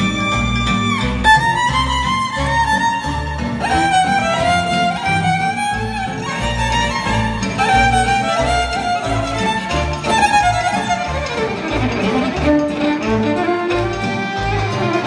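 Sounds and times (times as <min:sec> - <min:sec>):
violin folk melody: 0:00.0 - 0:15.0.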